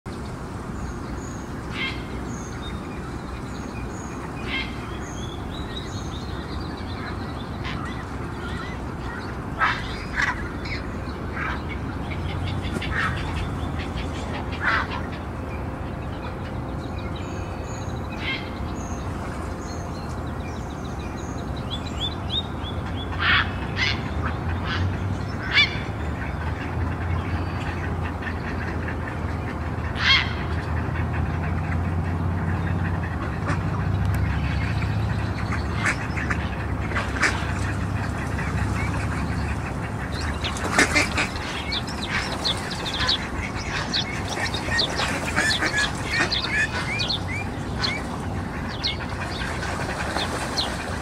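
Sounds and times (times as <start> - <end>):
songbirds chirping: 0.1 - 51.0
water birds calling: 0.1 - 51.0.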